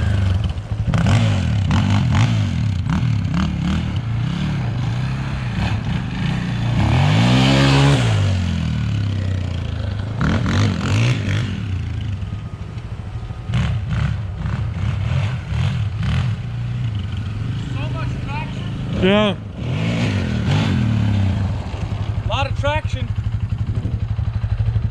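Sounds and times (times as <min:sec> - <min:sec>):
quad engine revving: 0:00.0 - 0:24.8.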